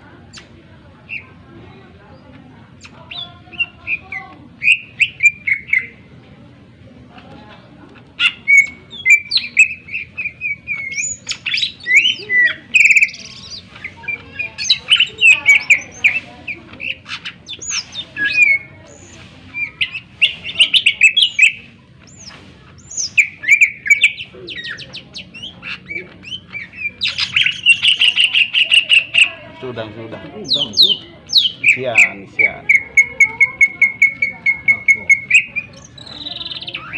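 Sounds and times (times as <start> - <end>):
bird singing whistles and trills: 2.8 - 6.0, 8.2 - 29.4, 30.4 - 36.9.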